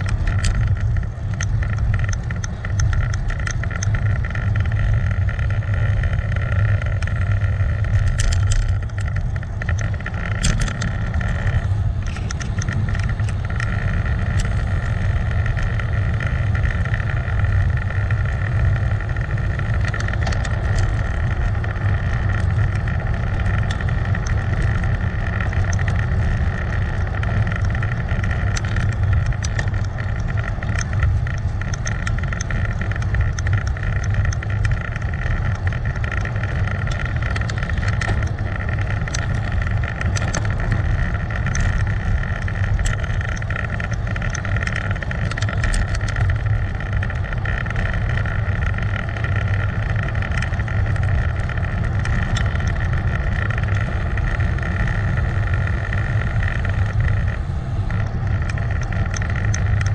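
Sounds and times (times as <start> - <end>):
small ticks: 0.0 - 59.9
steady hum: 0.0 - 59.9
wind and road noise: 0.0 - 59.9.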